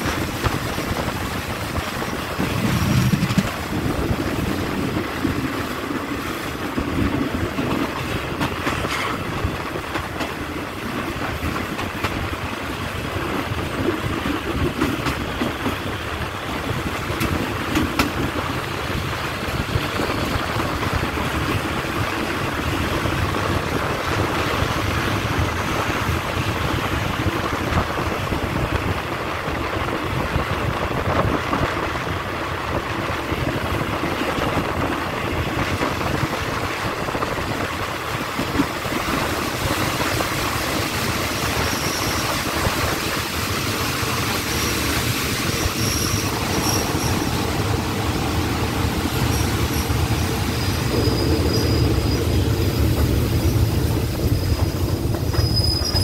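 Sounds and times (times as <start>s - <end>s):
train wheel and rail noise: 0.0s - 56.0s
wind on microphone: 0.0s - 56.0s.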